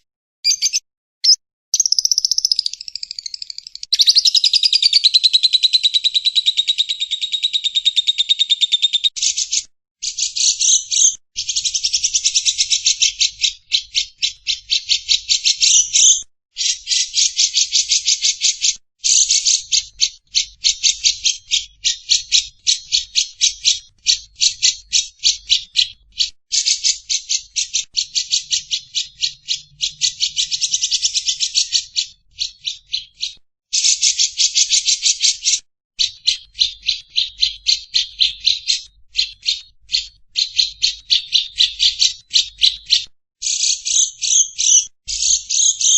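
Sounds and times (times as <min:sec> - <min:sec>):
bird chattering in rapid trills: 0:00.4 - 0:45.9.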